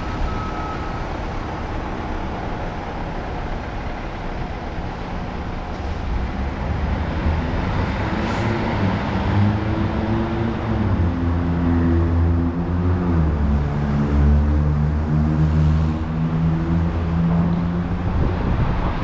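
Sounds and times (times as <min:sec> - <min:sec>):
roadway traffic rumble: 0:00.0 - 0:19.0
vehicle engine hum: 0:00.0 - 0:19.0.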